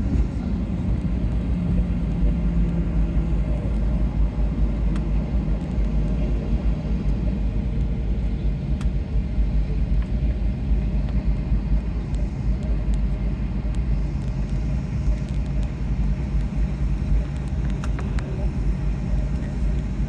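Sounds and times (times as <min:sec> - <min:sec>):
aircraft cabin low rumble: 0:00.0 - 0:20.0.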